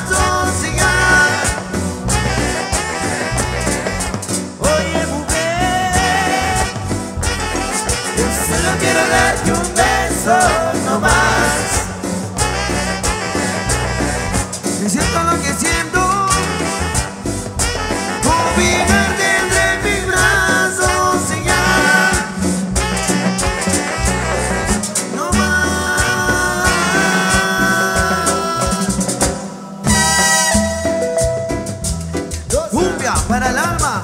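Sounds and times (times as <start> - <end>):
live latin dance band: 0.0 - 34.0.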